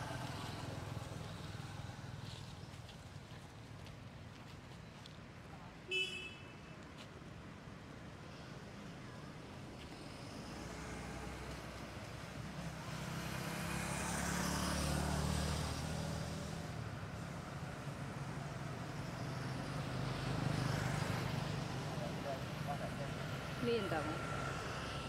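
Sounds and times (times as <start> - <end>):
vehicles driving past: 0.0 - 3.0, 7.6 - 25.0.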